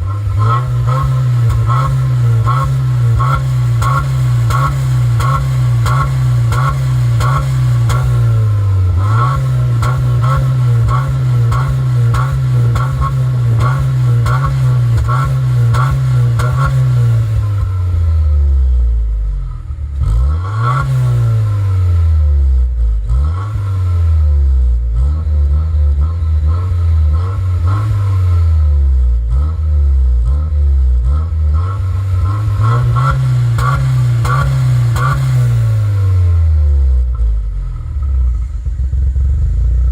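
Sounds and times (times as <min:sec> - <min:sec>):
car engine free-revving: 0:00.0 - 0:39.9.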